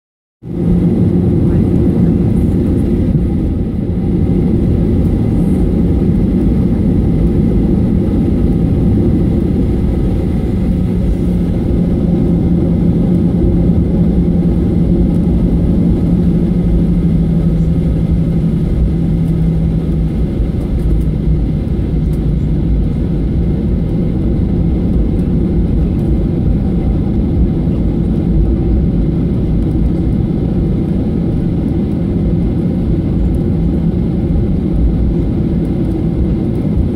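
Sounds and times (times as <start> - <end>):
jet engine cabin rumble: 0.4 - 36.9.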